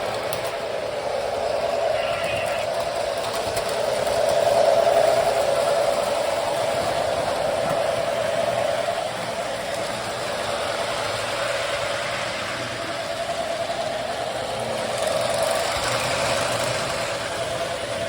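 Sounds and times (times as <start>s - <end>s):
toy train motors whirring: 0.0s - 18.0s
wheels rumbling on metal track: 0.0s - 18.0s.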